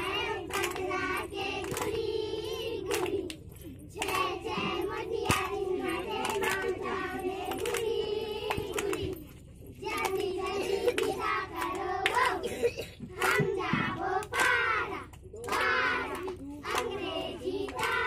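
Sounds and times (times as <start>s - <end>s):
hands clapping in rhythm: 0.0s - 9.2s, 9.8s - 12.4s, 13.1s - 18.0s.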